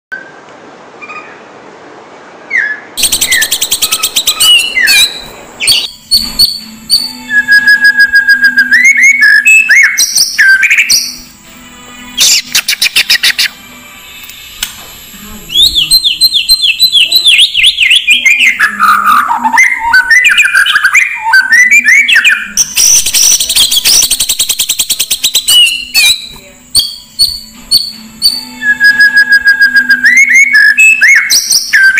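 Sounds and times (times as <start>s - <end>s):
bird singing: 2.4s - 11.4s, 12.0s - 13.7s, 15.2s - 31.9s.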